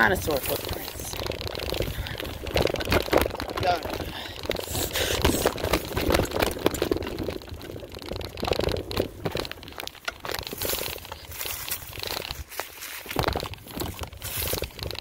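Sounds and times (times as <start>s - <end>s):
bike rattling: 0.0s - 15.0s
tyres crunching on trail: 0.0s - 15.0s.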